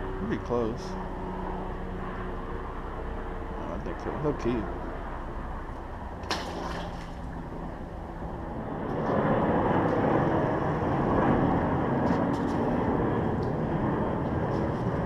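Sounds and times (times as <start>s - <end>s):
engine running nearby: 0.0s - 15.0s.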